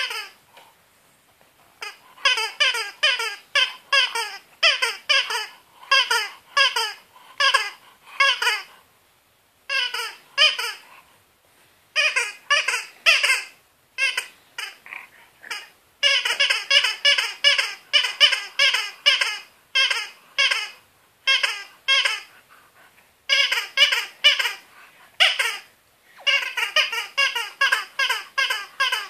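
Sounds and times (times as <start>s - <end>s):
rubber dog toy squeaking: 0.0s - 0.4s, 1.8s - 8.7s, 9.7s - 10.9s, 12.0s - 22.4s, 23.3s - 29.0s.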